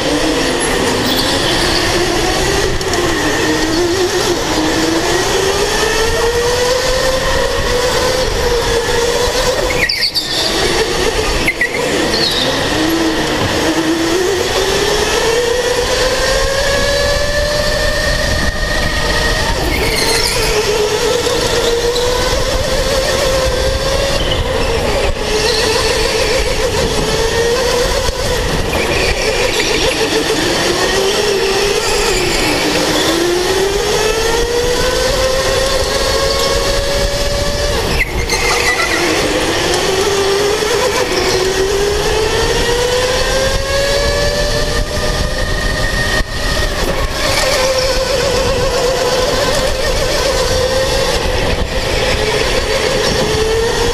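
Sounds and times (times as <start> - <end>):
electric go-kart motor whining: 0.0 - 53.9
steady rushing noise: 0.0 - 53.9.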